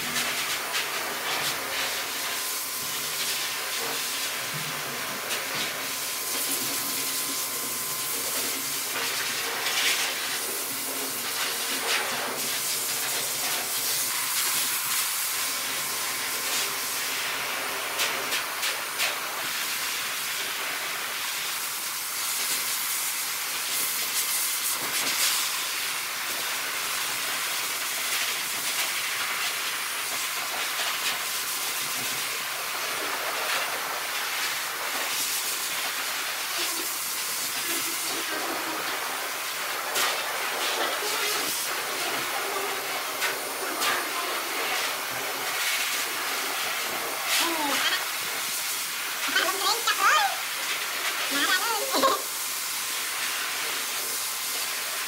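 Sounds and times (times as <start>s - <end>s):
electric pet clippers buzzing: 0.0s - 55.0s.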